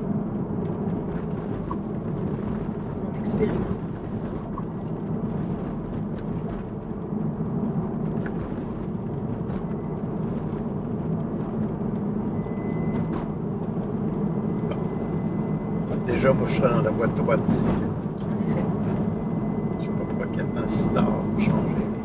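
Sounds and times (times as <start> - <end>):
road and tyre noise: 0.0 - 22.0.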